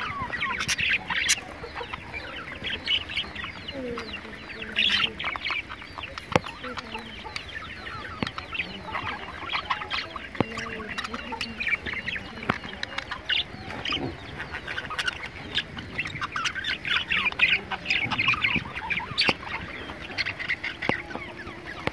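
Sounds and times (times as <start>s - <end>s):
budgerigars chirping and chattering: 0.0s - 21.9s.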